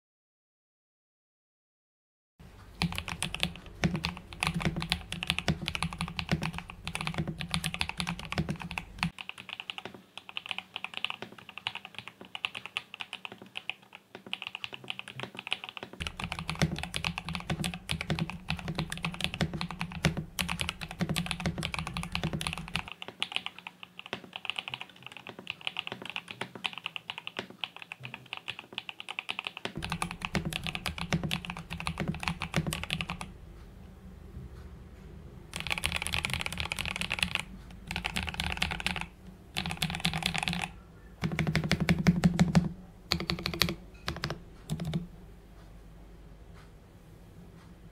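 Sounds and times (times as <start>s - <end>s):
fast typing on mechanical keyboard: 2.8s - 33.3s, 35.5s - 45.1s.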